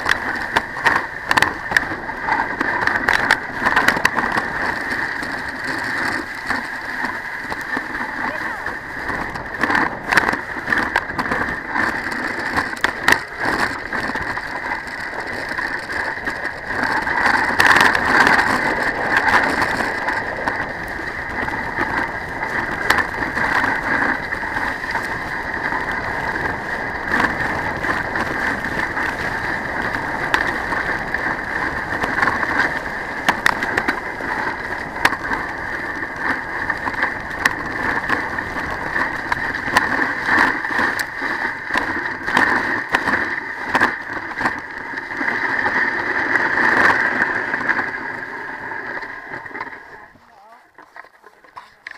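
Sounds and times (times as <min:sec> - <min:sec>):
small clicks and rattles: 0:00.0 - 0:51.9
toboggan runners hissing on snow: 0:04.3 - 0:49.7.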